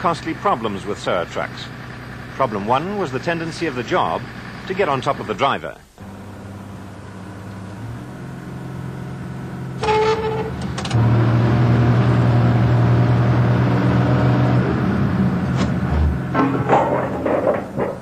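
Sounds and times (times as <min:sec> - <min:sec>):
truck engine running under load: 0:00.0 - 0:18.0.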